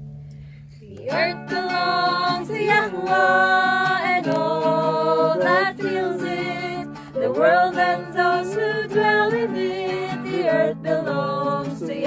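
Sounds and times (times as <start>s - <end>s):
acoustic guitar: 0.0s - 12.0s
group singing slow worship song: 1.0s - 12.0s.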